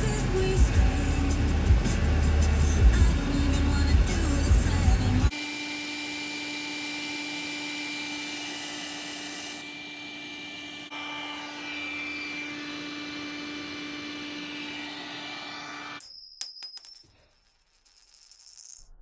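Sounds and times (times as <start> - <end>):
electric motor humming and whining: 0.0 - 16.0.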